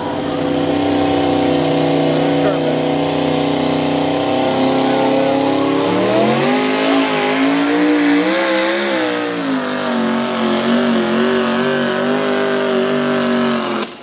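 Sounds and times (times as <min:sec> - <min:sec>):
engine running at high revs: 0:00.0 - 0:14.0.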